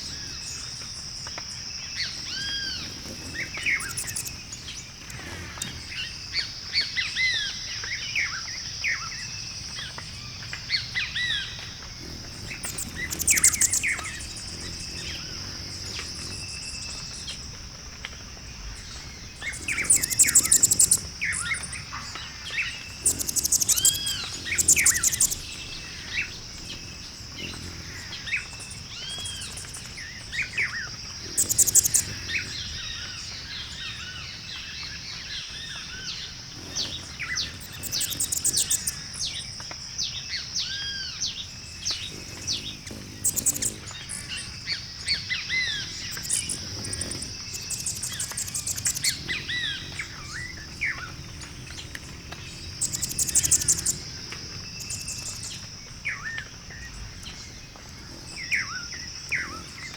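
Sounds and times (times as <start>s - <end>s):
loud rapid bird trills: 0.0s - 7.7s, 9.8s - 39.5s, 40.6s - 59.9s
birds chirping: 0.0s - 59.9s.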